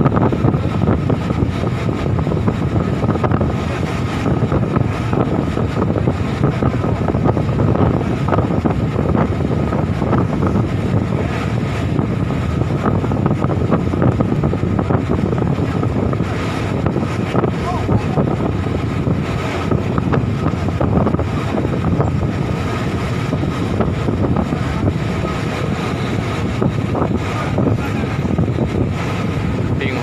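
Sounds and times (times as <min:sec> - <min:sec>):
boat engine running: 0:00.0 - 0:30.0
wind buffeting microphone: 0:00.0 - 0:30.0.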